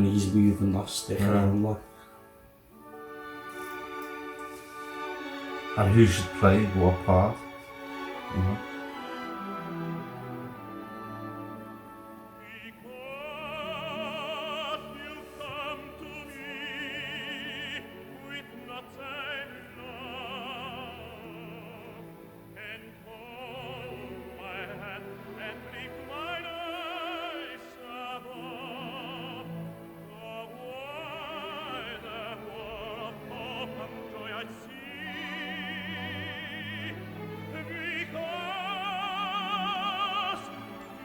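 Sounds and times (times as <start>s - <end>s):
operatic tenor singing: 0.0s - 41.0s
orchestra playing: 0.0s - 41.0s.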